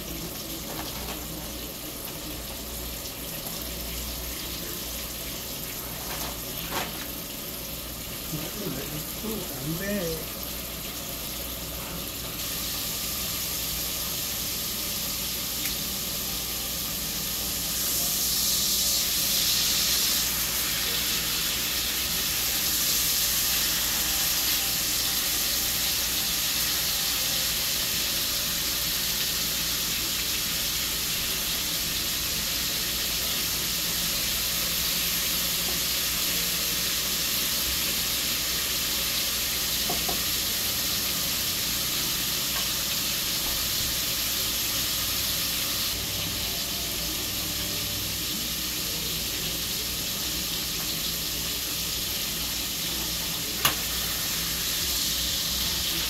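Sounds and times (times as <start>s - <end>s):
steak sizzling in a skillet: 0.0s - 56.0s.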